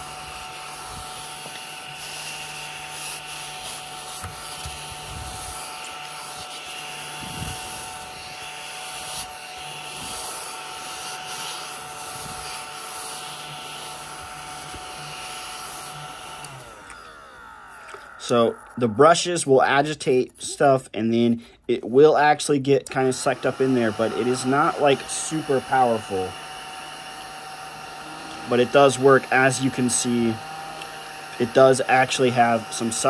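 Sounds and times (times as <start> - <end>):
small vacuum motor whining: 0.0 - 19.3, 22.8 - 33.0.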